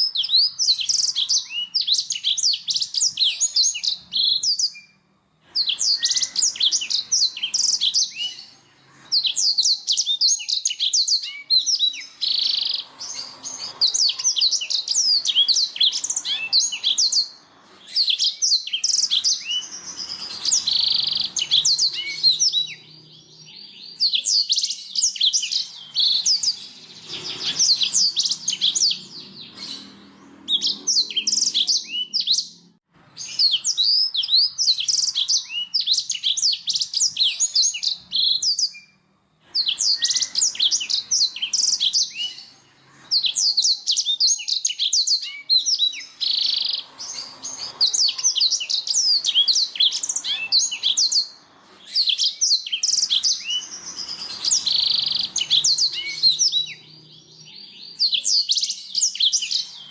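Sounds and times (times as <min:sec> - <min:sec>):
canary singing chirps and trills: 0:00.0 - 0:59.9.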